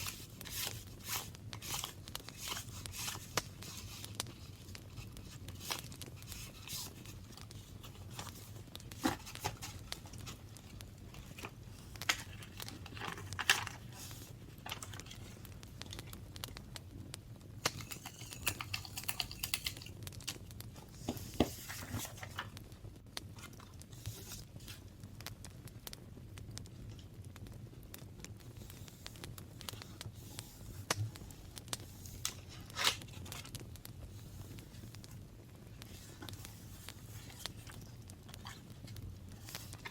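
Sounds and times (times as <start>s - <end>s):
paper rustling and crinkling: 0.0s - 16.2s, 17.6s - 22.6s, 23.4s - 24.8s, 28.6s - 39.9s.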